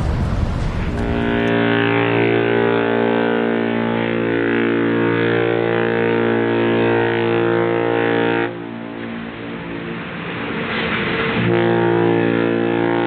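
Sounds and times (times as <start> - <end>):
ship horn blast: 0.0 - 13.0.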